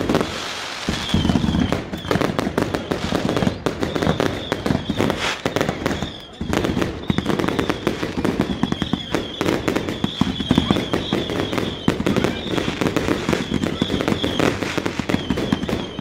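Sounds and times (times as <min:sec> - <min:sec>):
fireworks bangs and crackles: 0:00.0 - 0:16.0
high wavering whistle: 0:00.7 - 0:16.0.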